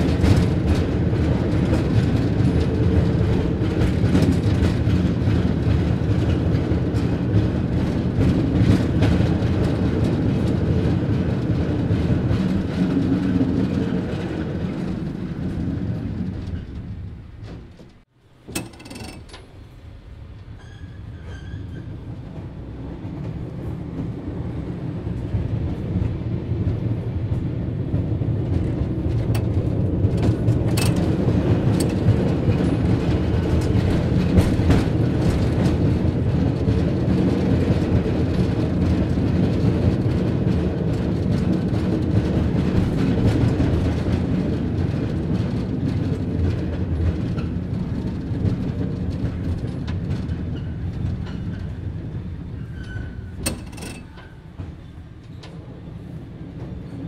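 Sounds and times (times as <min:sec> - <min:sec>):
cable car rumble: 0:00.0 - 0:57.0.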